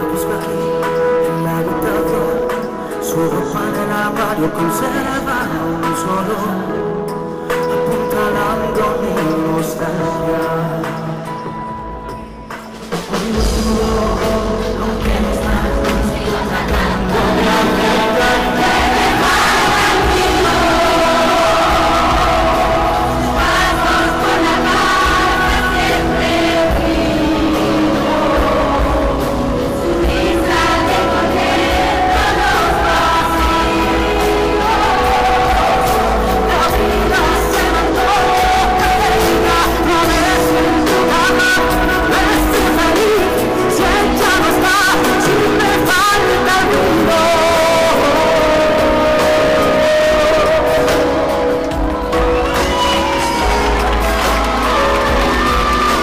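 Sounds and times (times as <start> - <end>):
pop song with singer: 0.0 - 56.0.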